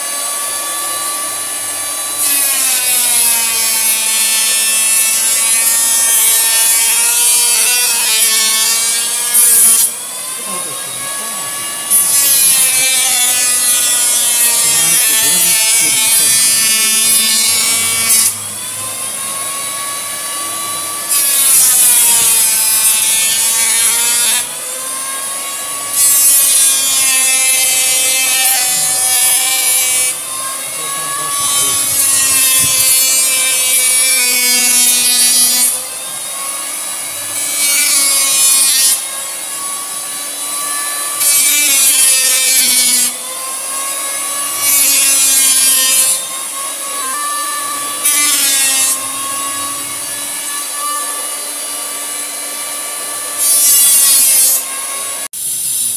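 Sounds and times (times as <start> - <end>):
power planer cutting wood: 0.0 - 55.9.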